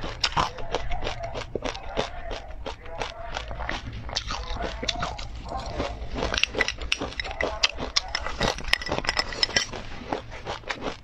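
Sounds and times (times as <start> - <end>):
crunchy food being chewed: 0.0 - 11.0.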